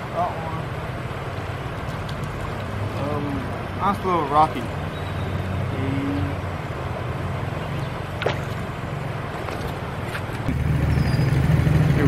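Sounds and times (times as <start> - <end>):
river water running over rocks: 0.0 - 10.5.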